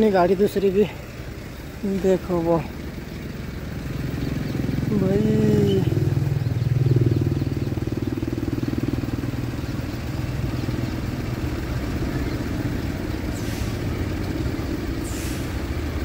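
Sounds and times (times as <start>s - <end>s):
diesel truck engine passing: 0.0s - 16.0s.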